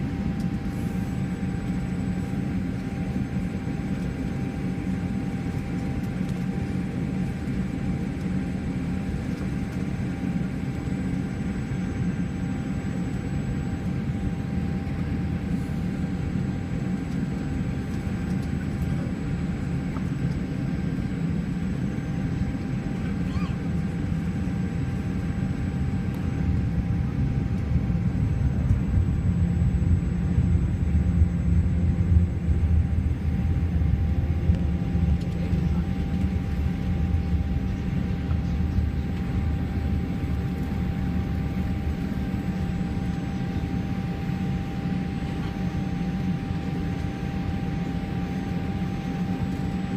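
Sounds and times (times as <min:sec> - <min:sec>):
aircraft engine rumble: 0:00.0 - 0:49.9
steady cabin hum: 0:00.0 - 0:49.9.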